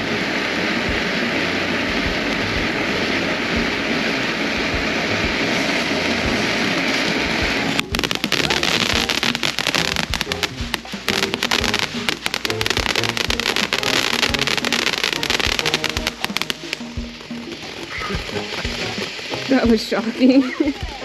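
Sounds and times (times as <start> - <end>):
firework fountain hissing: 0.0 - 21.0
firework rapid crackling: 0.0 - 21.0.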